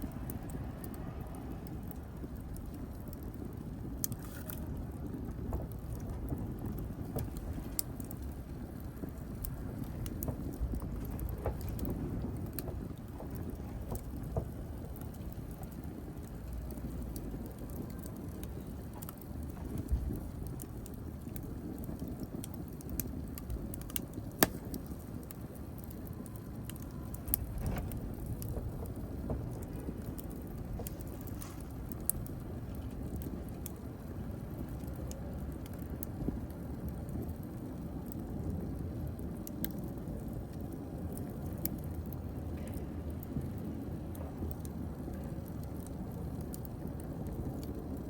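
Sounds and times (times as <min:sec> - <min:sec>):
fire crackles and pops: 0:00.0 - 0:48.0
fire flames rumbling: 0:00.0 - 0:48.0.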